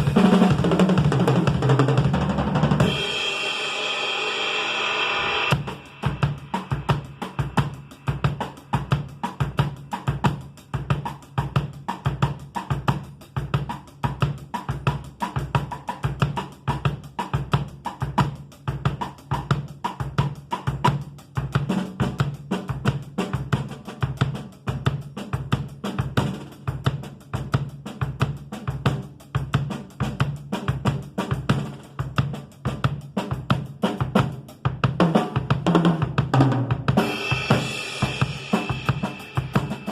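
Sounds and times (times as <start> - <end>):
hi-hat and cymbals: 0.0 - 2.1, 2.7 - 39.9.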